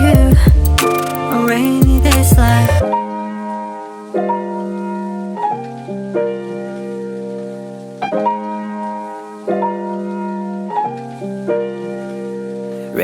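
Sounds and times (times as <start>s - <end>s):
soft piano chords: 0.0s - 13.0s.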